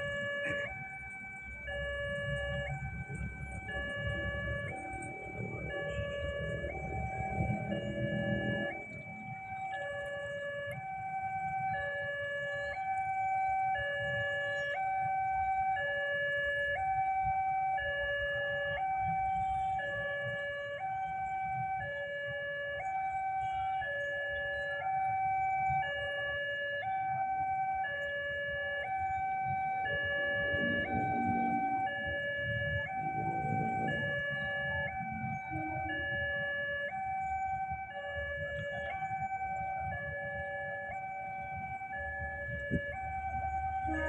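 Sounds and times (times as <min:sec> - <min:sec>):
two-tone crossing alarm: 0:00.0 - 0:44.0.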